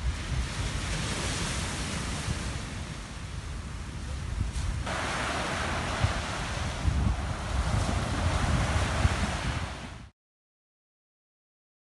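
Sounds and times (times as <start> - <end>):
waves breaking: 0.0 - 10.1
wind on microphone: 0.0 - 10.1.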